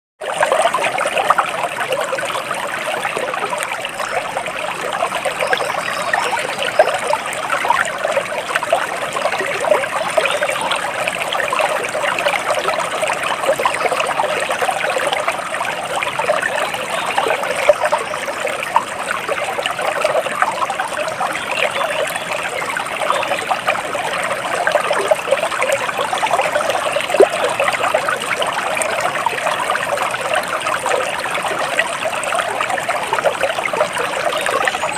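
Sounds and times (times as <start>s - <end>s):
stream babbling: 0.2s - 34.9s.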